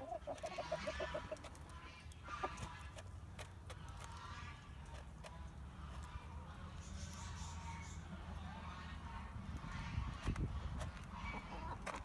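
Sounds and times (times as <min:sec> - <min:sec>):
hen clucking: 0:00.0 - 0:12.0.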